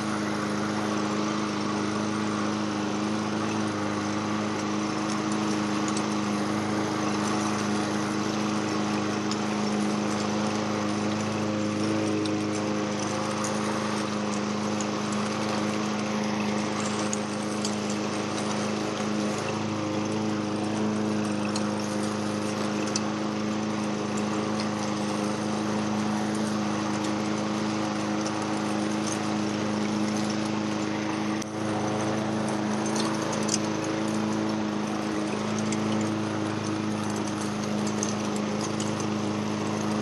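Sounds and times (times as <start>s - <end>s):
small gasoline engine running: 0.0s - 40.0s.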